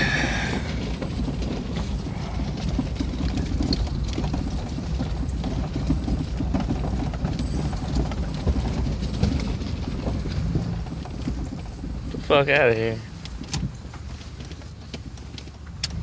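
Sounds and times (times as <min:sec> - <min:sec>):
engine and road rumble: 0:00.0 - 0:16.0
truck knocks and rattles: 0:00.0 - 0:16.0.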